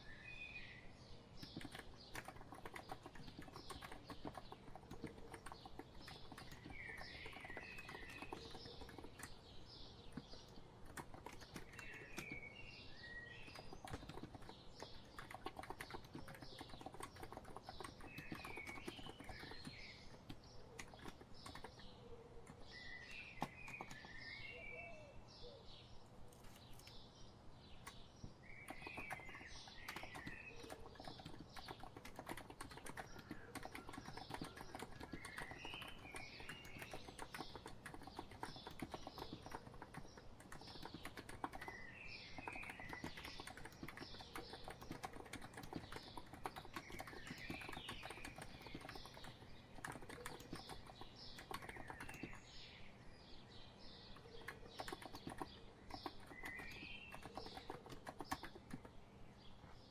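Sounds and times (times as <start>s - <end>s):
birds chirping: 0.0s - 59.9s
keyboard typing clicks: 1.4s - 12.4s, 13.4s - 24.2s, 28.6s - 52.5s, 54.2s - 59.0s.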